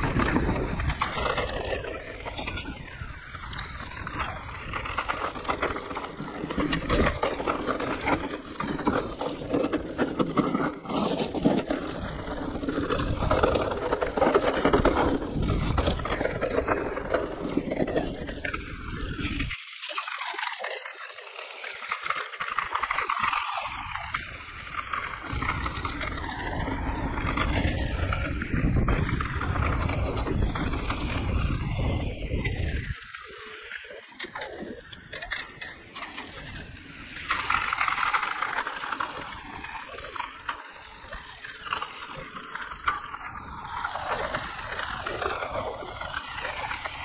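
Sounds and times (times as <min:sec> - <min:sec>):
bike tyres rattling over roots: 0:00.0 - 0:47.0.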